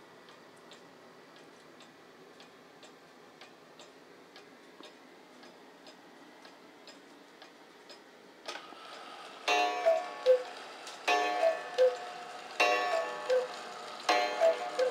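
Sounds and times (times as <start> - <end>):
pendulum clock ticking: 0.2 - 8.1, 9.5 - 14.9.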